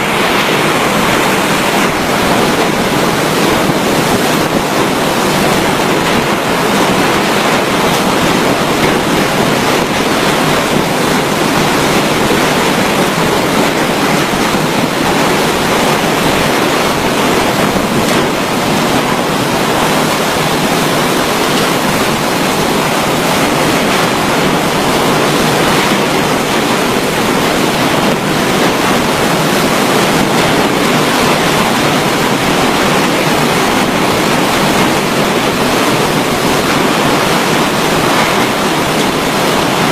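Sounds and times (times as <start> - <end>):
rushing typhoon wind: 0.0 - 39.9
rushing water: 0.0 - 39.9.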